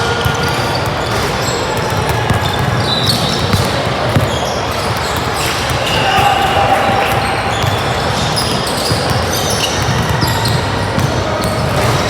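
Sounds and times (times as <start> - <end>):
basketball bouncing on gym floor: 0.2 - 12.0.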